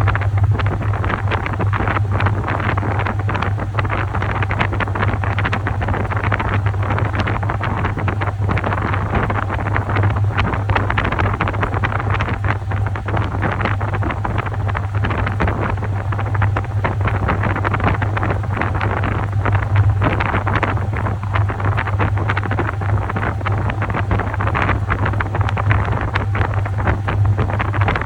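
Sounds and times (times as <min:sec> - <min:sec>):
low motor hum: 0:00.0 - 0:28.0
water churning and splashing: 0:00.0 - 0:28.0.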